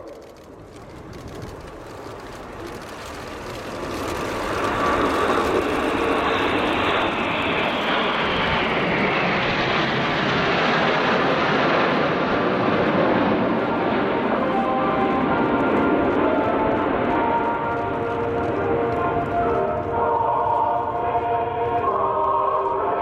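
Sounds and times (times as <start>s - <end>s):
jets flying past: 0.0s - 22.8s.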